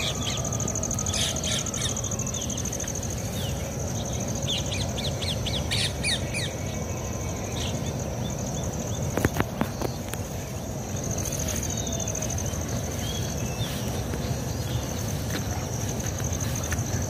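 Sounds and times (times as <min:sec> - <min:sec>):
steady high buzz: 0:00.0 - 0:17.0.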